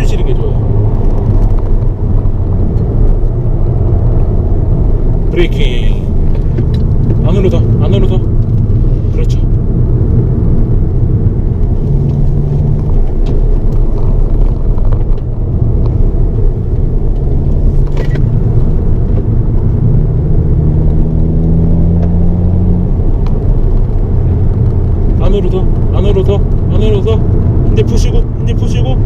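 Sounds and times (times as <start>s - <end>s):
car engine revving: 0.0s - 29.0s
road noise: 0.0s - 29.0s.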